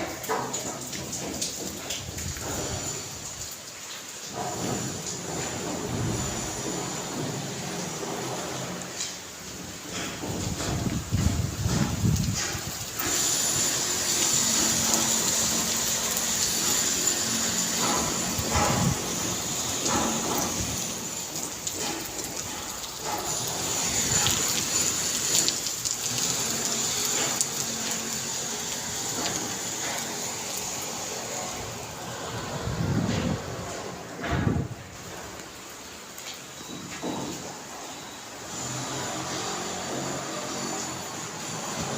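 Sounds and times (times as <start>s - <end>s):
heavy rain hissing: 0.0s - 36.6s, 37.4s - 41.9s
rain ticks and splashes: 0.0s - 41.9s.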